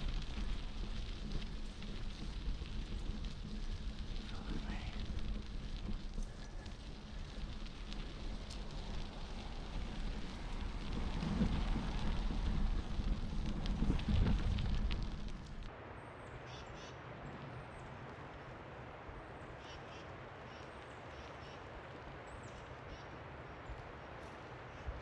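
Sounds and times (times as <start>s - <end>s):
wind rumble from bicycle ride: 0.0s - 25.0s.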